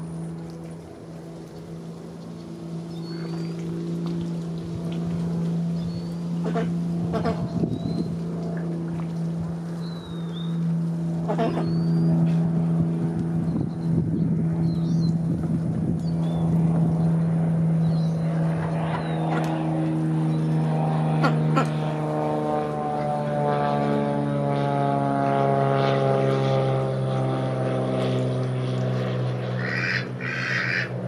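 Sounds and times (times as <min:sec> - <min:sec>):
propeller airplane engine drone: 0:00.0 - 0:31.0.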